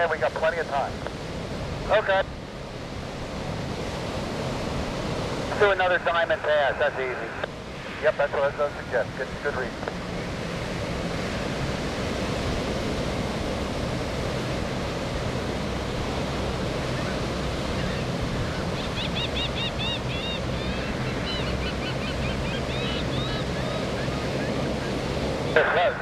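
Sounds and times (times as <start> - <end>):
distant aircraft engines droning: 0.0 - 26.0
surf rushing: 0.0 - 26.0.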